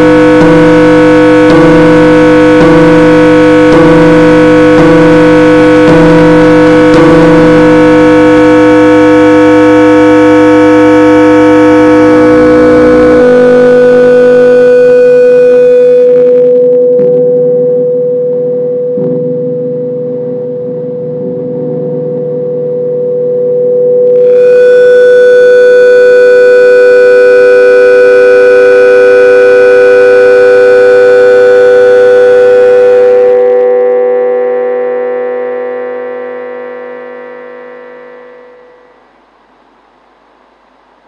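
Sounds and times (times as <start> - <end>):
bright harsh drone layer: 0.0 - 16.2, 17.1 - 39.0
droning tones: 0.0 - 41.0.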